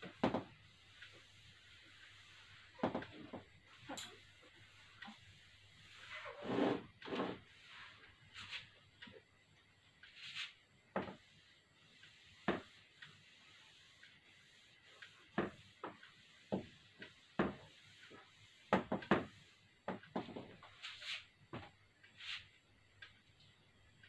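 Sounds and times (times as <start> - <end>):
cloth rubbing on whiteboard: 0.1 - 8.7, 10.2 - 21.3.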